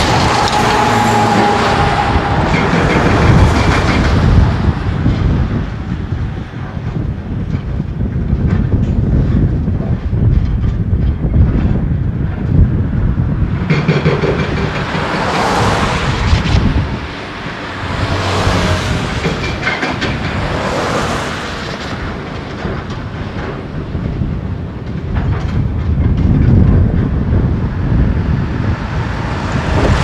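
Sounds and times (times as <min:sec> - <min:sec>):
vehicles passing: 0:00.0 - 0:09.5, 0:11.8 - 0:30.0
steady low traffic rumble: 0:00.0 - 0:30.0.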